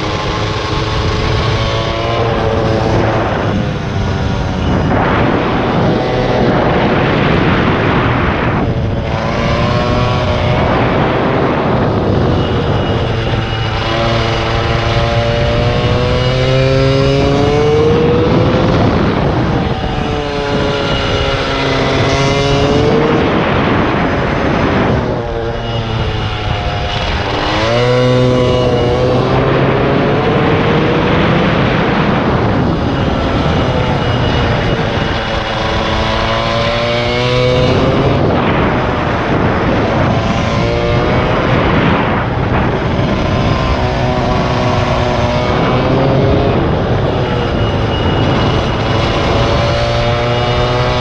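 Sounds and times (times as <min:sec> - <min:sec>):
small motorbike engine revving: 0:00.0 - 0:51.0.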